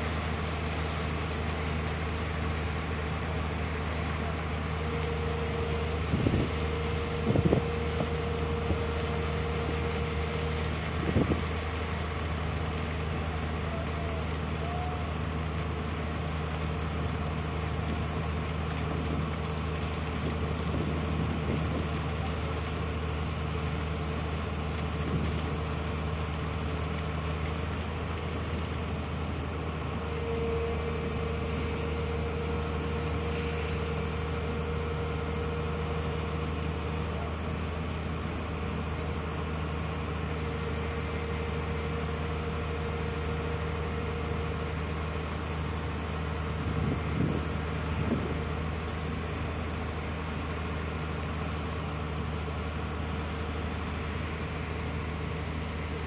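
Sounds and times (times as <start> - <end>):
dredger engine droning: 0.0 - 56.0.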